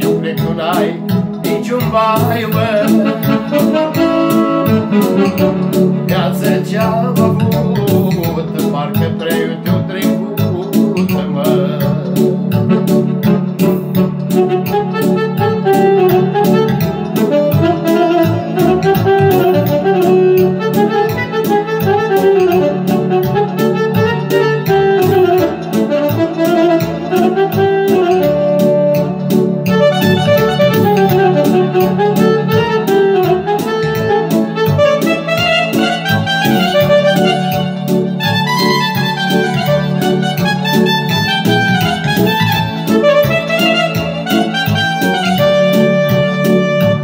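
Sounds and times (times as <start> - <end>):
electronic keyboard music: 0.0 - 47.0.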